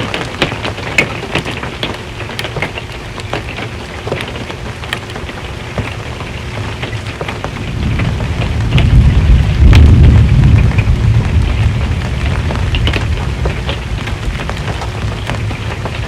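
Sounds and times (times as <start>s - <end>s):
rain hissing: 0.0s - 16.0s
raindrops tapping on metal roof: 0.0s - 16.0s.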